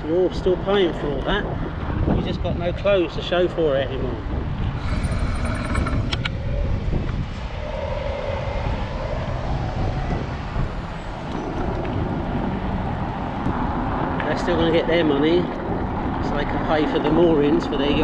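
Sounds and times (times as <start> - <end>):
passing traffic: 0.0 - 18.0
road rumble: 0.0 - 18.0
wind buffeting microphone: 0.0 - 18.0.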